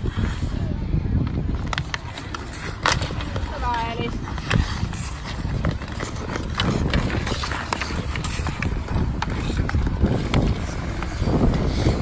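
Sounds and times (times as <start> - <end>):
skate blades scraping ice: 0.0 - 12.0
hockey sticks and puck clacking: 1.2 - 12.0.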